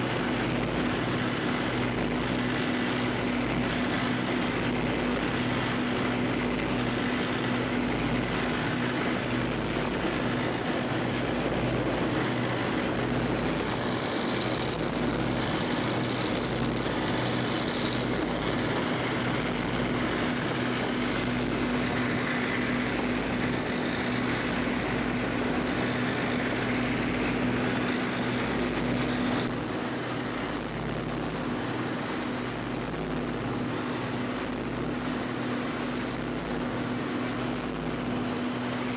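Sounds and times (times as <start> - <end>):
boat engine droning: 0.0 - 38.9
wind: 0.0 - 38.9.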